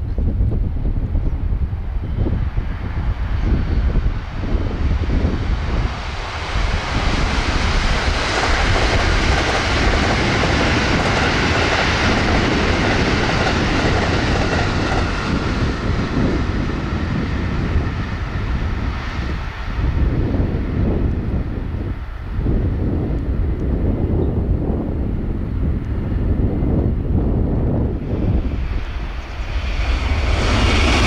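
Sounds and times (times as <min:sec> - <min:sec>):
train wheels rushing on rail: 0:00.3 - 0:24.0, 0:25.7 - 0:31.0.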